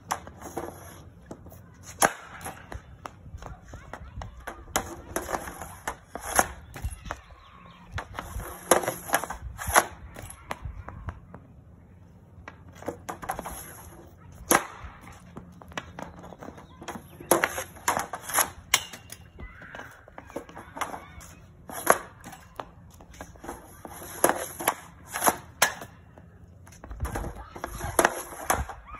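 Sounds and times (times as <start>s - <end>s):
hockey stick slapping pucks: 0.0s - 11.4s, 12.4s - 26.0s, 26.6s - 28.8s.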